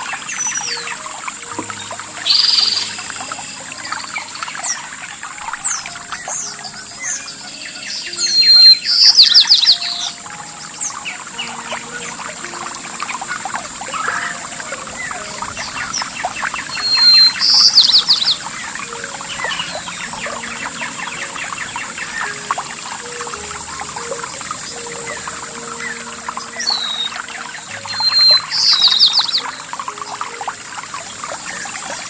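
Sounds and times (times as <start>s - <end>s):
flowing water rushing: 0.0s - 32.0s
songbird whistle and trill: 0.0s - 32.0s
thin high hiss: 0.0s - 32.0s.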